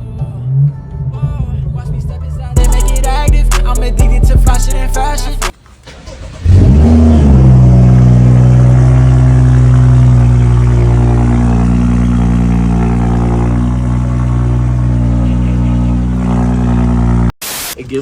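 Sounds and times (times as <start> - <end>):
car engine starting and idling: 0.0 - 17.4.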